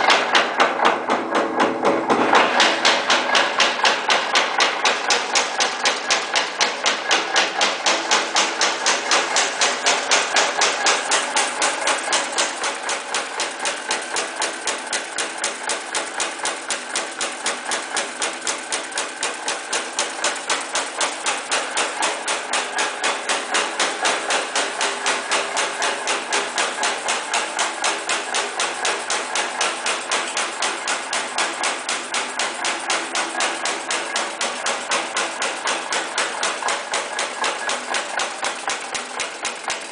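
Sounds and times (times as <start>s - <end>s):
punching press clattering on metal: 0.0s - 39.9s.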